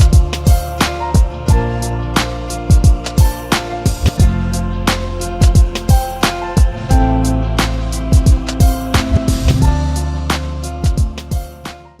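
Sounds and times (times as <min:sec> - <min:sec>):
sustained bass tone: 0:00.0 - 0:11.3
kick drums and hi-hats: 0:00.0 - 0:12.0.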